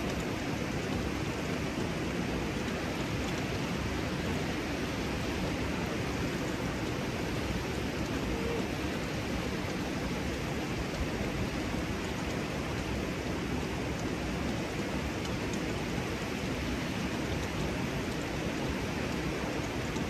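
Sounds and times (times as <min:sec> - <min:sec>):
water rushing in small cascade: 0:00.0 - 0:20.0.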